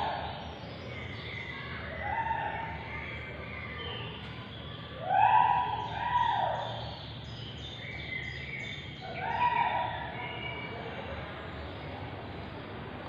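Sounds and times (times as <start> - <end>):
long drawn-out bird calls: 0.0 - 11.3.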